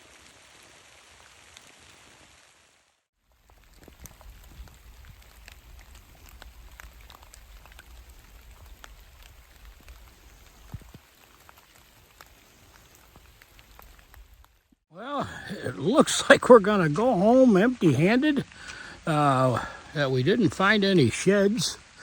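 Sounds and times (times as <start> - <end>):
rain pattering in woodland: 0.0 - 22.0
raindrops ticking: 3.3 - 22.0.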